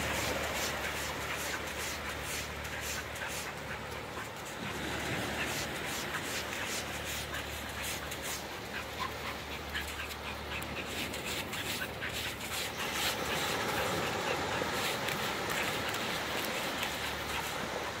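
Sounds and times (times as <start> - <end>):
small waves washing on sand: 0.0 - 18.0.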